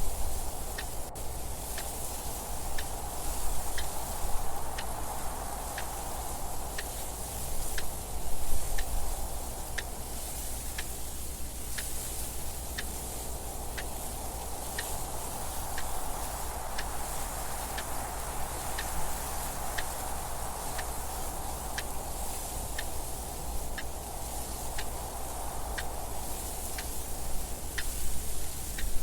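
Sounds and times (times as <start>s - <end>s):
wind noise: 0.0s - 29.0s.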